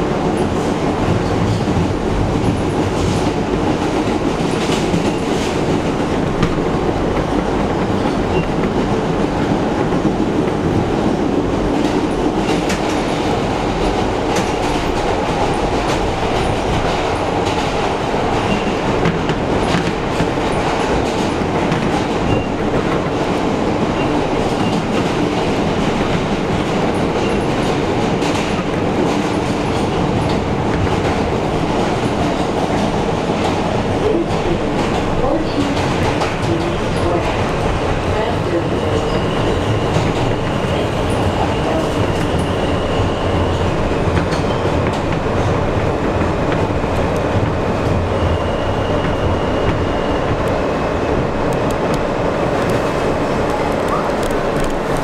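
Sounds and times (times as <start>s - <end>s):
subway train rumbling in tunnel: 0.0s - 55.0s.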